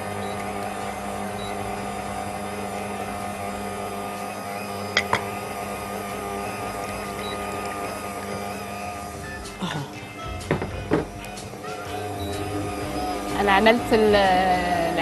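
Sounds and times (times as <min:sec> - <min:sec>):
stand mixer motor hum: 0:00.0 - 0:15.0.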